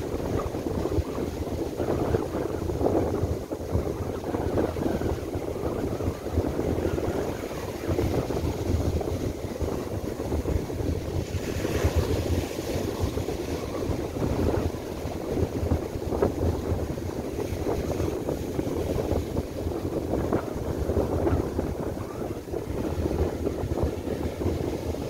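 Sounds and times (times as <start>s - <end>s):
surf breaking on beach: 0.0s - 25.0s
wind buffeting microphone: 0.0s - 25.0s.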